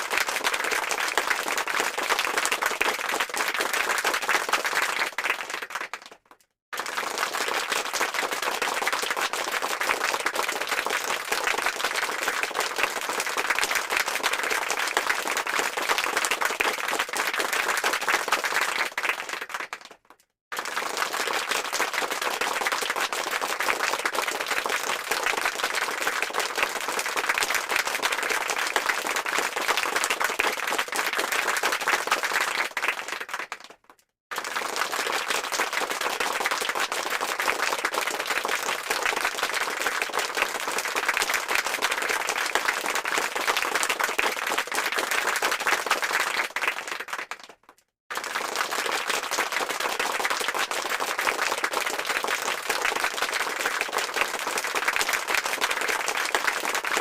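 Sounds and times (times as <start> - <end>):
crowd applause: 0.0 - 6.2, 6.8 - 57.0.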